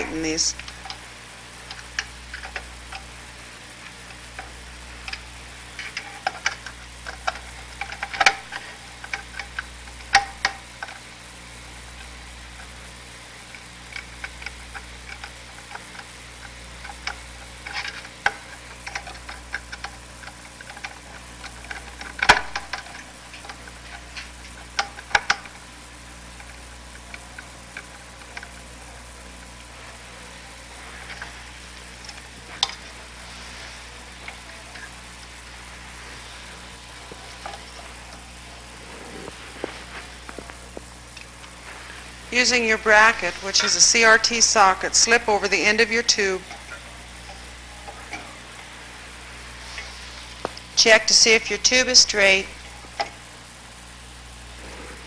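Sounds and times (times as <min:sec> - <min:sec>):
recording hum and hiss: 0:00.0 - 0:55.0.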